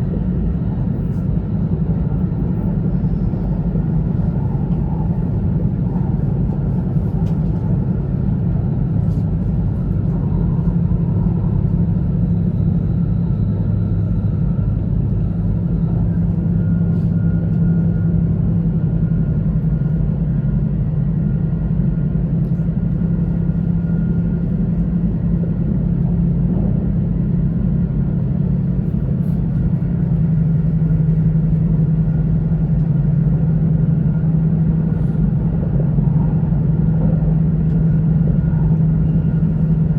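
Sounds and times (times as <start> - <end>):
train rumble inside cabin: 0.0 - 39.9.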